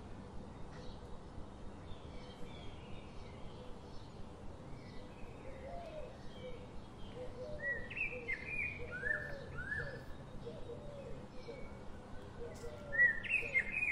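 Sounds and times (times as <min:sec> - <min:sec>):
steady background hiss: 0:00.0 - 0:13.9
birds chirping: 0:01.7 - 0:13.9.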